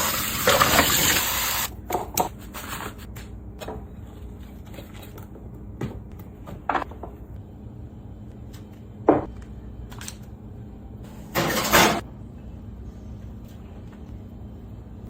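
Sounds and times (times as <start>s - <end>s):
steady low hum: 1.7s - 15.0s.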